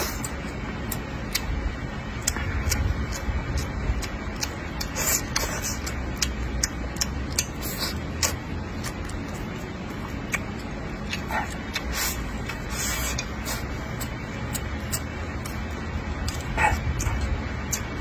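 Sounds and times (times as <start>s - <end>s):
person chewing with lip smacking: 0.0s - 18.0s.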